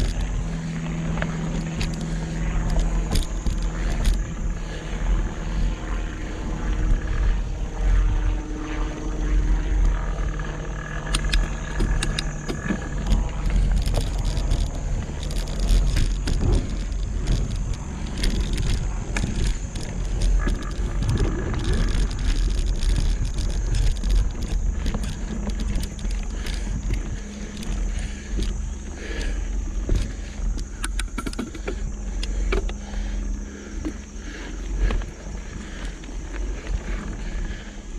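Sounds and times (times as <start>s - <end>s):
bike rattling over rough ground: 0.0s - 37.9s
wind buffeting microphone: 0.0s - 37.9s.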